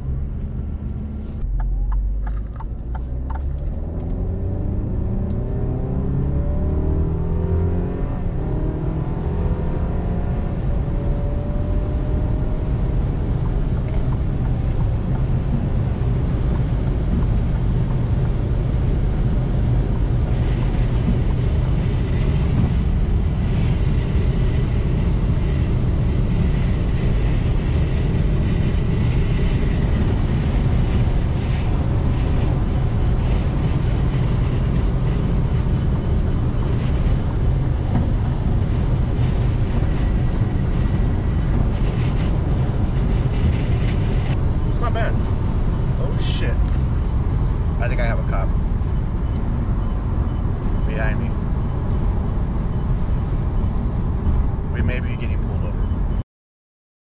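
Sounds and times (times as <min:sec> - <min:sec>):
car engine accelerating: 0:00.0 - 0:56.2.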